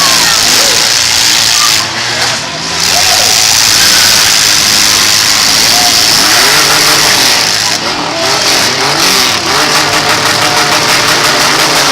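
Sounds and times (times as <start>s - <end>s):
car engines revving: 0.0s - 11.9s.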